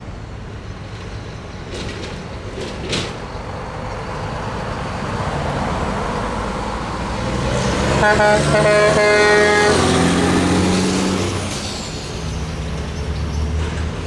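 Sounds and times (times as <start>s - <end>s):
truck diesel engines rumbling: 0.0s - 14.0s.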